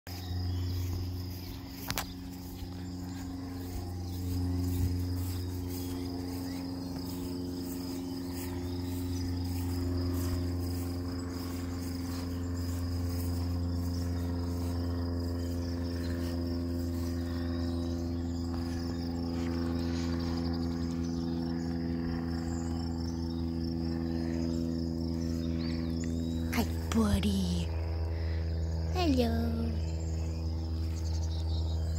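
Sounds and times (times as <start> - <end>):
crickets chirring: 0.1 - 31.9
steady low hum: 0.1 - 31.9.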